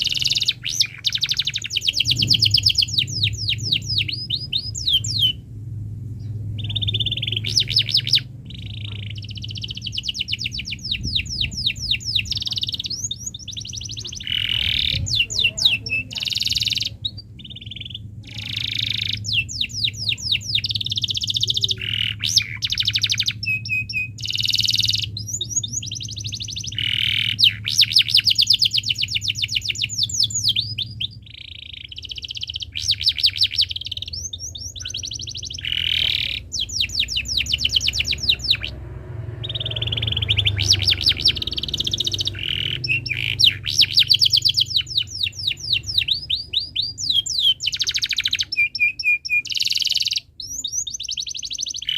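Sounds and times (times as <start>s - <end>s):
canary singing trills: 0.0s - 51.9s
low steady hum: 0.0s - 51.9s.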